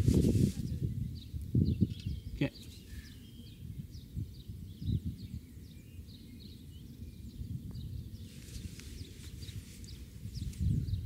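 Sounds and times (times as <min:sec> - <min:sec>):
wind rumbling on microphone: 0:00.0 - 0:11.0
small birds chirping: 0:00.5 - 0:11.0.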